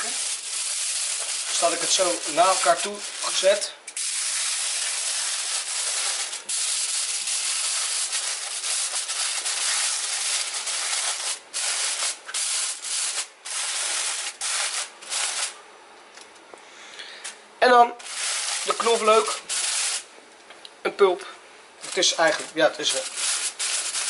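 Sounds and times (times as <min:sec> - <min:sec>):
aluminium foil crinkling: 0:00.0 - 0:15.6, 0:18.0 - 0:20.0, 0:21.8 - 0:24.0.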